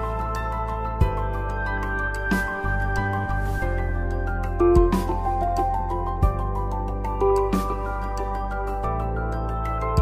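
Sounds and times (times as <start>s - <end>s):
calm background music: 0.0s - 10.0s.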